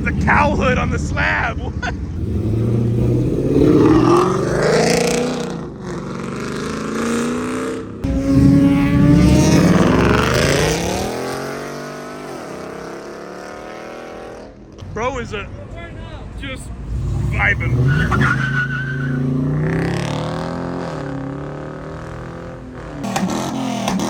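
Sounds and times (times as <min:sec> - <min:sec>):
car engine revving: 0:00.0 - 0:15.7, 0:16.4 - 0:24.0.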